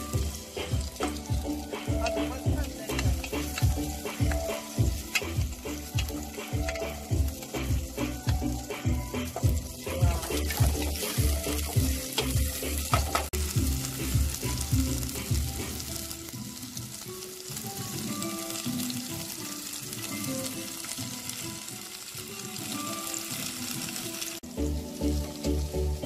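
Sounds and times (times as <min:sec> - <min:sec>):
background music with a beat: 0:00.0 - 0:26.0
food sizzling in hot oil: 0:00.0 - 0:26.0.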